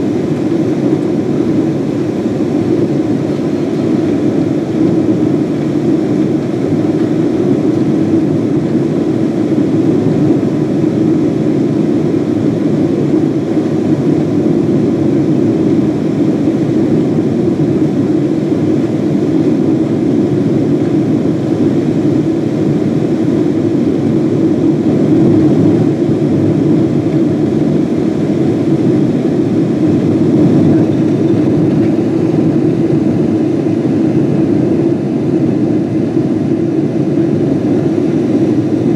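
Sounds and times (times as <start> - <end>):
jet engines and rushing air: 0.0 - 38.9.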